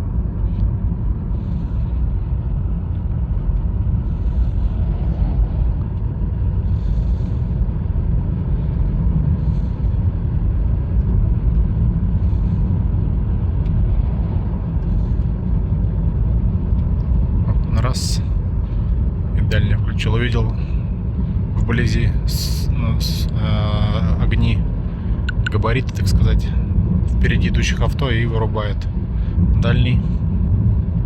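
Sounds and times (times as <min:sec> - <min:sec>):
road and tyre noise in car cabin: 0:00.0 - 0:31.0.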